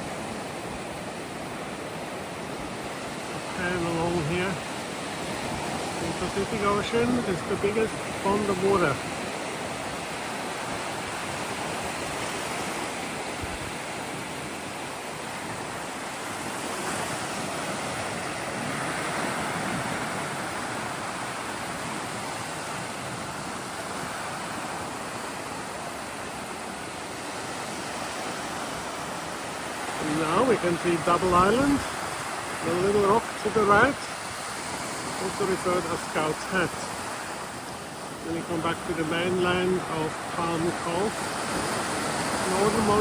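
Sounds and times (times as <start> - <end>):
ocean surf: 0.0 - 43.0.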